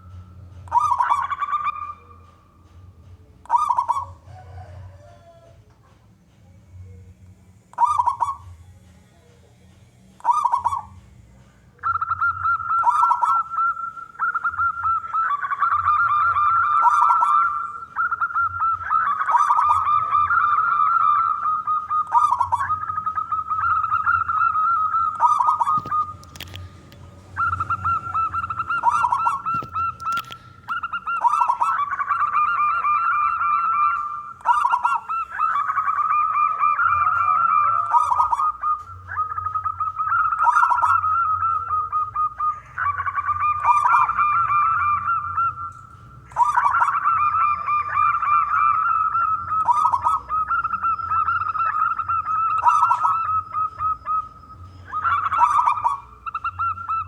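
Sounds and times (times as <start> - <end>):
dove cooing: 0.0 - 5.8, 7.6 - 8.7, 10.2 - 57.0.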